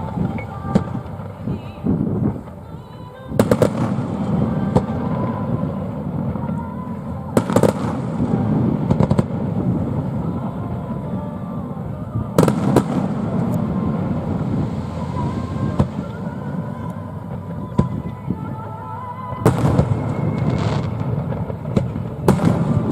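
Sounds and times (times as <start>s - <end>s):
fireworks bangs: 0.0s - 22.9s
fireworks crackling: 0.0s - 22.9s
steady low rumble: 0.0s - 22.9s.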